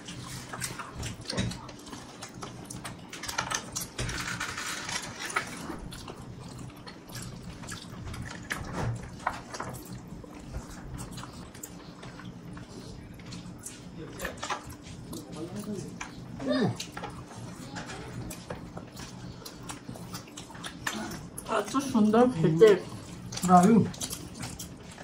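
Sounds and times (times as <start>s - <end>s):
wet chewing and lip-smacking: 0.0s - 4.0s, 5.5s - 25.0s.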